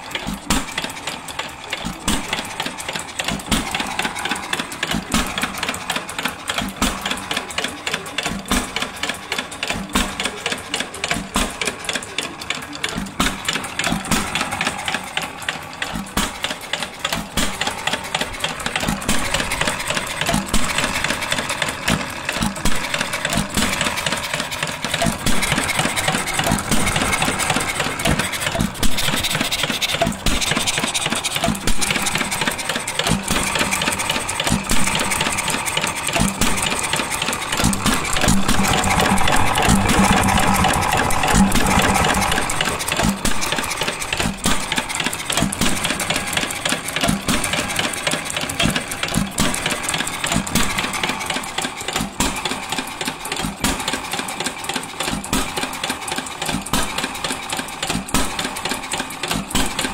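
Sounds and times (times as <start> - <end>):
stationary engine clattering: 0.0 - 59.9.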